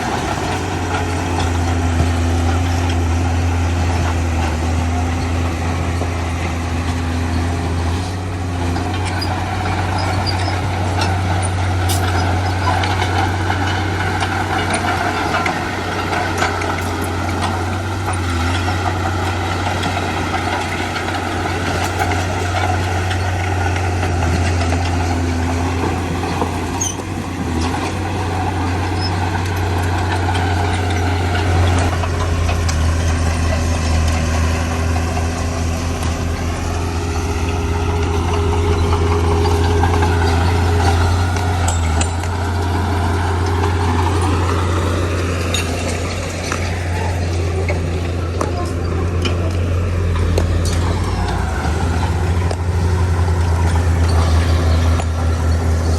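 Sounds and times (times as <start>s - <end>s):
heavy machinery diesel engine: 0.0s - 55.9s.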